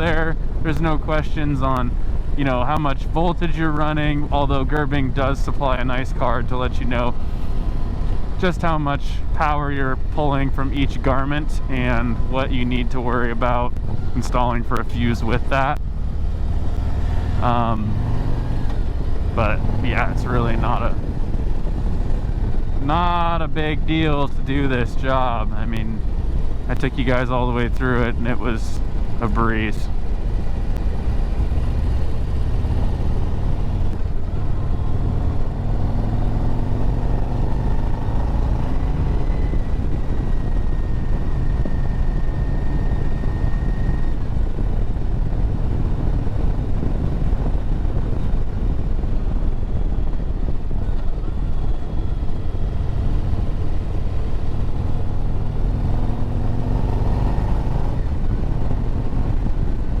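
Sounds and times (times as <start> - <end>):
motorcycle engine running: 0.0 - 60.0
wind rush: 0.0 - 60.0.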